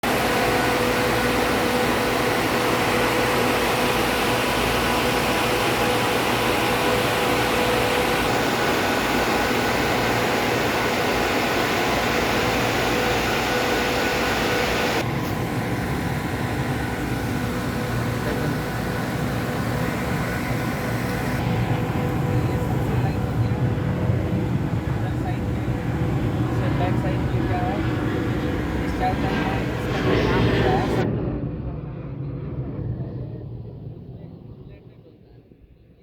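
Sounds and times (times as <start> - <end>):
rush of fan air: 0.0 - 31.1.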